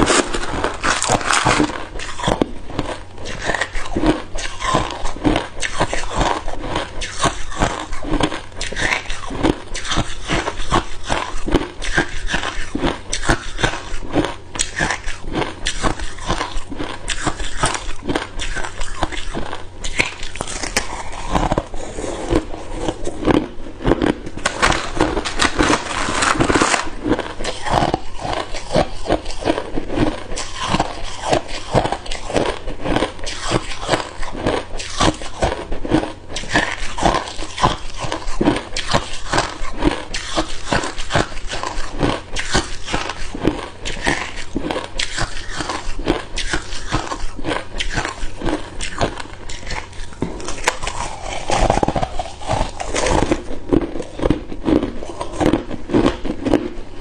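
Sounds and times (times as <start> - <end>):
ice cubes crunching while chewed: 0.0 - 56.8.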